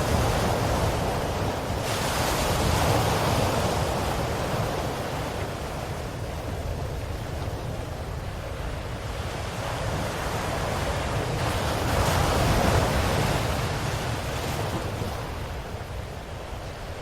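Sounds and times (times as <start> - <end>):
low rumble of surf: 0.0 - 17.0
wave washing in: 0.0 - 17.0.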